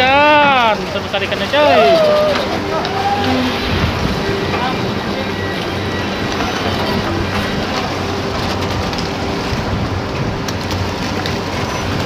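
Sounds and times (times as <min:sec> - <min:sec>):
low engine hum: 0:00.0 - 0:12.0
sea water splashing beside boat: 0:00.0 - 0:12.0.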